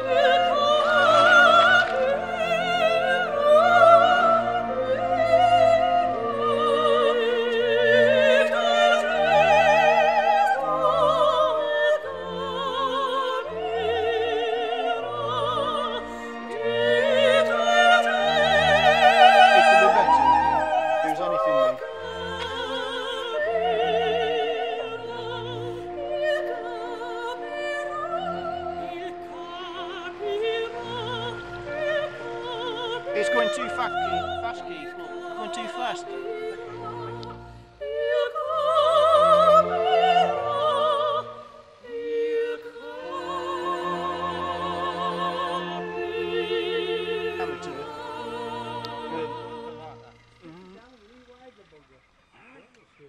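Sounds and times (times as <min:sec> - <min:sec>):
orchestral accompaniment: 0:00.0 - 0:51.6
operatic singing with vibrato: 0:00.0 - 0:53.0.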